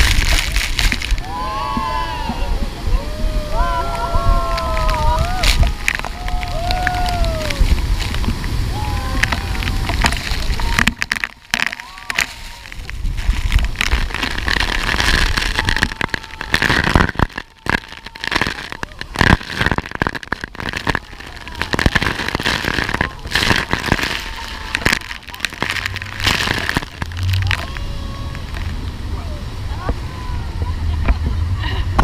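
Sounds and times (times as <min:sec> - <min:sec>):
wind buffeting microphone: 0:00.0 - 0:11.0, 0:12.1 - 0:32.0.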